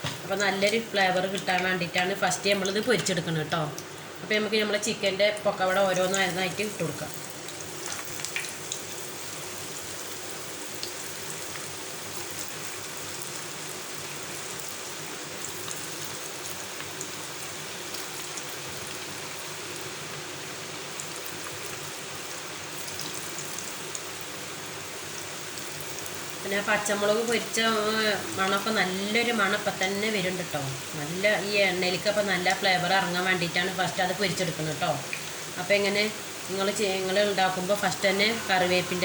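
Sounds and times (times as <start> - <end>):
food deep-frying in oil: 0.0 - 39.0.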